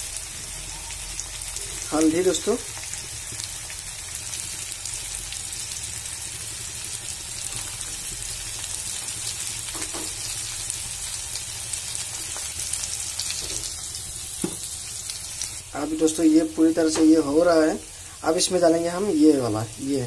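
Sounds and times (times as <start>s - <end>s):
onions frying in hot oil: 0.0s - 20.0s.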